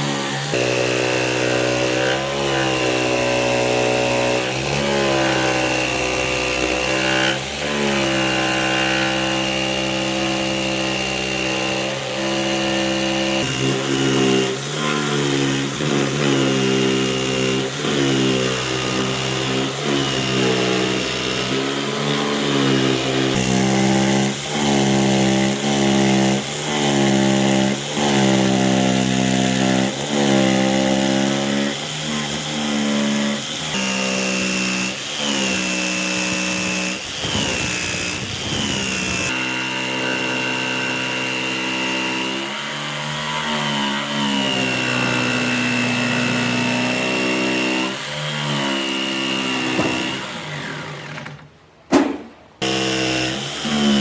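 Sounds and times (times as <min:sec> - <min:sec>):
electric power tool motor running: 0:00.0 - 0:51.5, 0:52.6 - 0:54.0.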